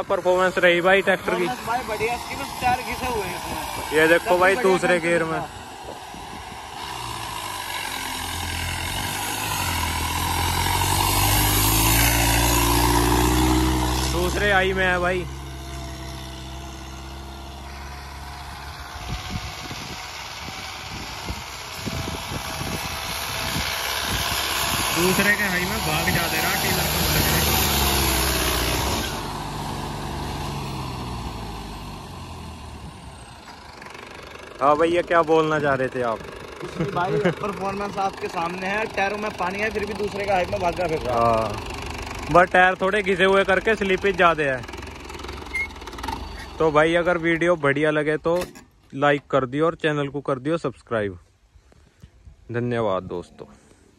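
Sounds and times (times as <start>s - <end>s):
tractor diesel engine: 0.0s - 50.0s.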